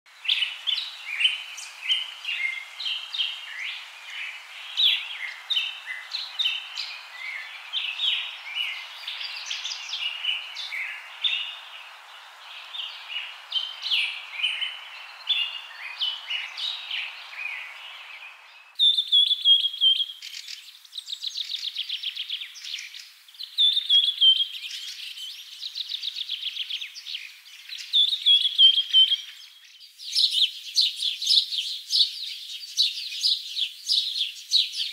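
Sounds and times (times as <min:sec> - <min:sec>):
birds chirping and singing: 0:00.1 - 0:34.9.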